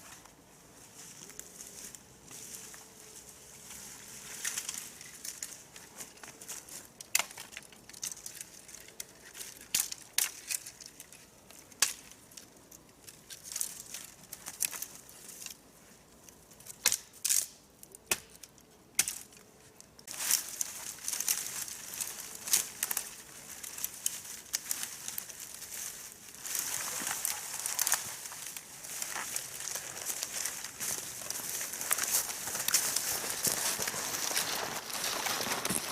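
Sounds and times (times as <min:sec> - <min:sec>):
dry leaves and twigs crunching: 0:00.0 - 0:35.9.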